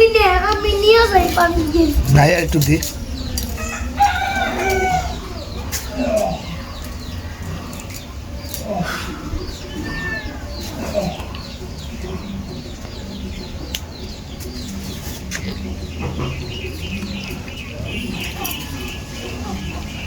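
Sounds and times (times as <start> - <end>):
birds chirping: 0.0 - 20.0
louder lower bird calls: 0.8 - 20.0.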